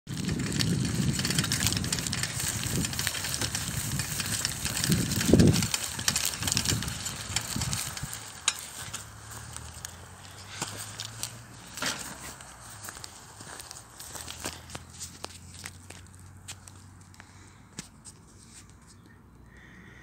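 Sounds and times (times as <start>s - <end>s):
bicycle tyres on grass and gravel: 0.1s - 19.0s
bike rattles and clicks: 0.1s - 19.3s.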